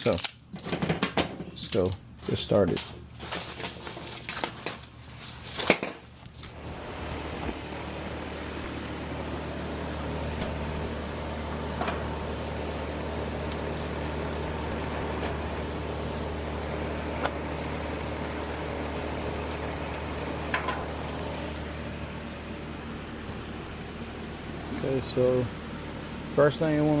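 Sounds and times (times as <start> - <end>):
heat pump humming with fan: 0.0 - 27.0.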